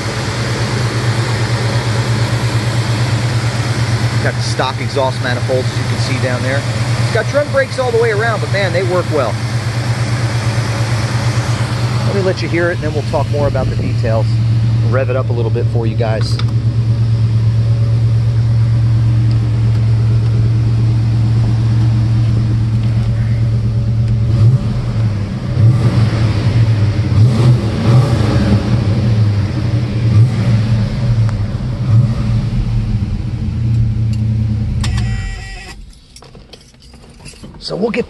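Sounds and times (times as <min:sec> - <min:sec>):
car engine idling and revving: 0:00.0 - 0:38.0.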